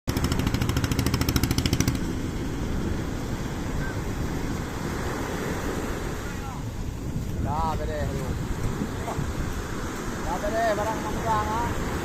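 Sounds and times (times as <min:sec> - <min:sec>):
boat engine running: 0:00.1 - 0:12.0.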